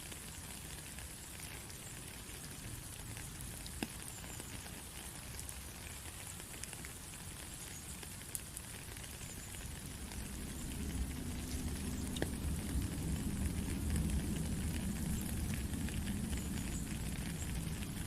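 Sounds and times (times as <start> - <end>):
rain hissing: 0.0 - 18.0
raindrop ticks: 0.0 - 18.0.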